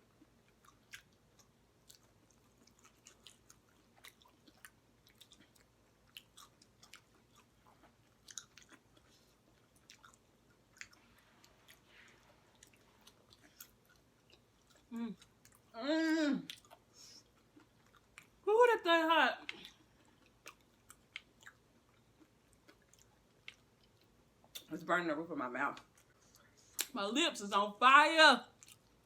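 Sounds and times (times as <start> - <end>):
people chewing: 0.2 - 18.4, 19.4 - 24.6.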